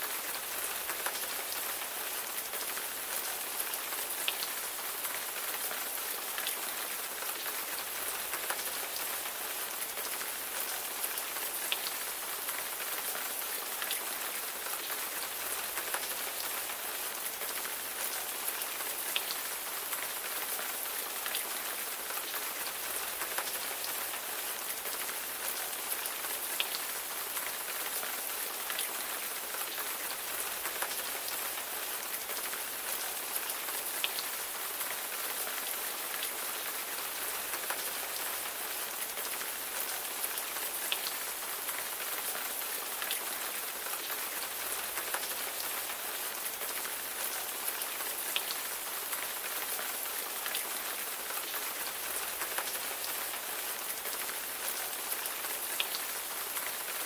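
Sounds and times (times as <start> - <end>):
raindrops ticking on a surface: 0.0 - 57.0
steady rain hiss: 0.0 - 57.0.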